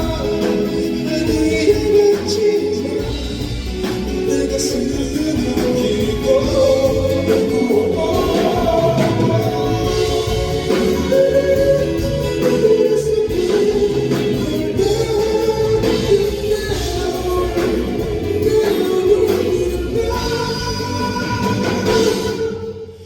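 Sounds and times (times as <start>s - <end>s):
live pop band with singing: 0.0s - 23.0s.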